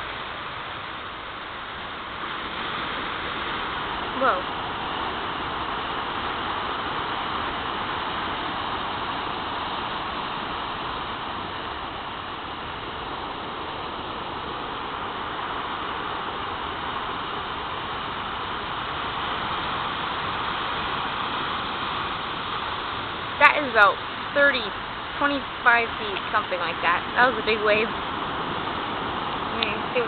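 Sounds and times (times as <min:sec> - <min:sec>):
heavy surf breaking: 0:00.0 - 0:30.0.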